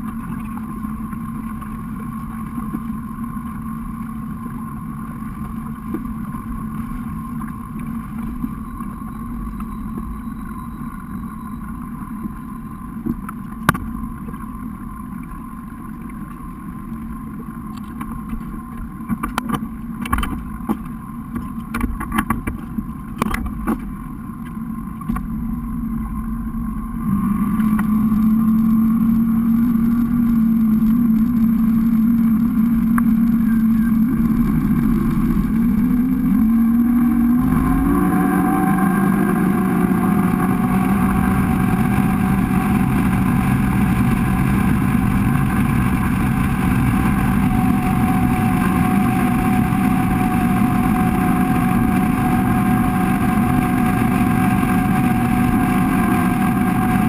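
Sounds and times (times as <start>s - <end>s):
boat engine running: 0.0s - 57.0s
rushing water and wind: 0.0s - 57.0s.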